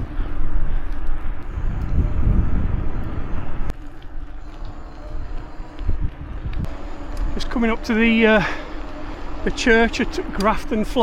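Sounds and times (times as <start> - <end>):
bicycle road noise: 0.0 - 11.0
wind buffeting microphone: 0.0 - 11.0.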